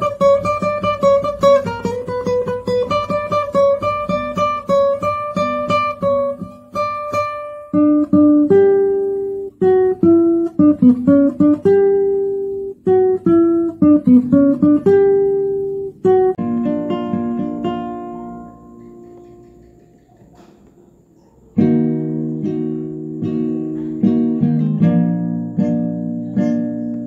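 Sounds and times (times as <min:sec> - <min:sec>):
slow guitar melody: 0:00.0 - 0:20.1, 0:21.6 - 0:27.0.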